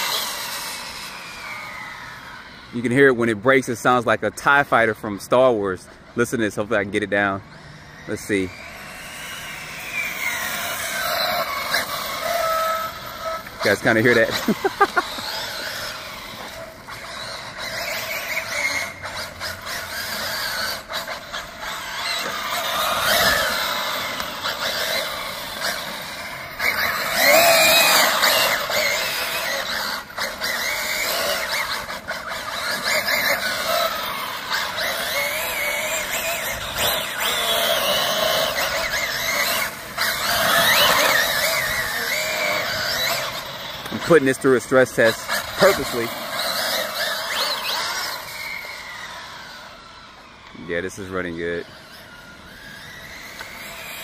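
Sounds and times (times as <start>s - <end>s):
electric motor whining: 0.0s - 3.0s, 6.9s - 54.0s.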